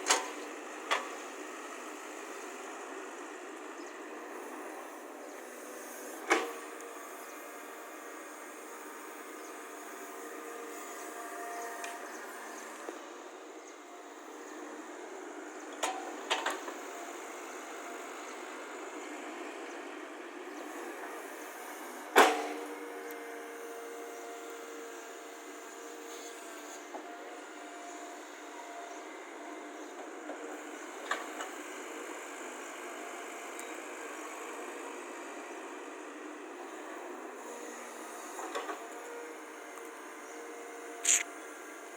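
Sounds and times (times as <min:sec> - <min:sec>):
excavator running: 0:00.0 - 0:41.9.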